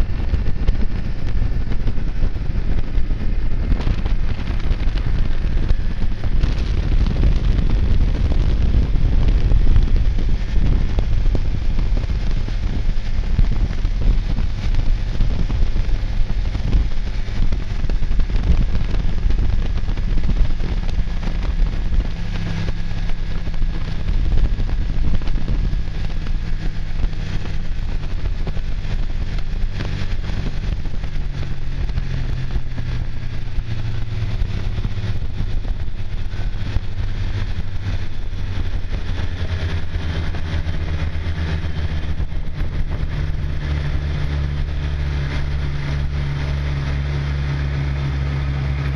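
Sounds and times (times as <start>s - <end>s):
snowmobile engine droning: 0.0s - 48.9s.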